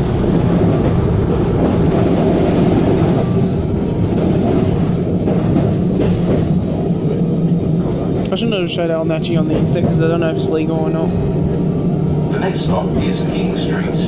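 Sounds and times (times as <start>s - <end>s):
tram running on track: 0.0s - 14.0s.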